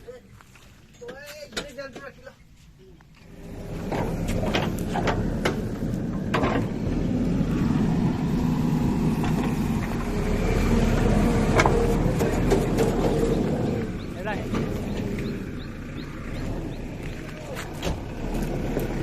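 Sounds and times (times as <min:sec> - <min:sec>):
diesel engine running: 0:03.2 - 0:19.0.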